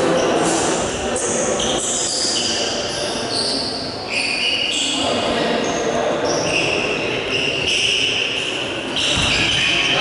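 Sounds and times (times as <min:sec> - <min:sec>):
indistinct chatter in sports hall: 0:00.0 - 0:10.0.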